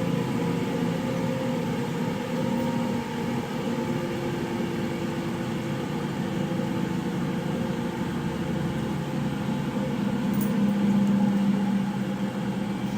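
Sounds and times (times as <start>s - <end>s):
washing machine running: 0.0s - 12.9s.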